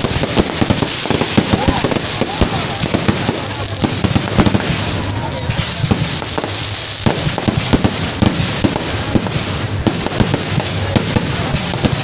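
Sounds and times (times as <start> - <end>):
fireworks crackling: 0.0 - 12.0
loud firework bangs: 0.0 - 12.0.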